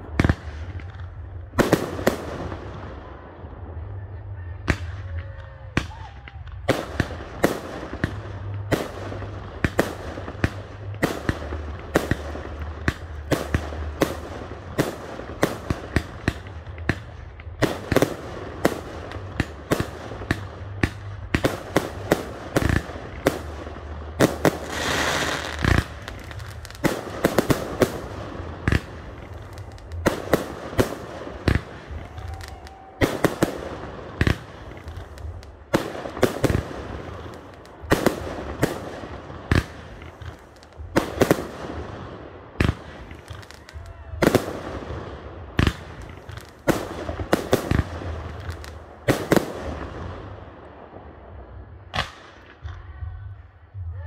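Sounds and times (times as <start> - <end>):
fireworks bursting with bangs: 0.0 - 52.7.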